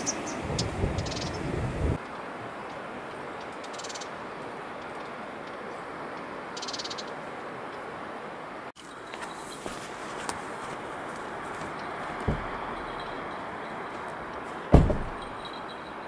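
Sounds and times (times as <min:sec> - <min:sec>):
wind and water hiss: 0:00.0 - 0:16.0.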